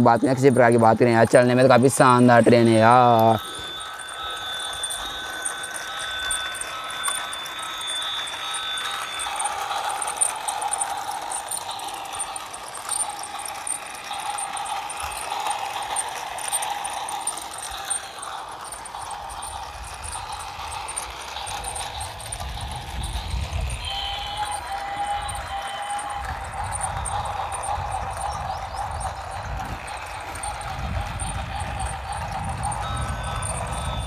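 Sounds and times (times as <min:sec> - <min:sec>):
steady high tone: 0:00.0 - 0:34.0
toy train motor whirring: 0:00.0 - 0:34.0
wheels rattling over track: 0:00.0 - 0:34.0.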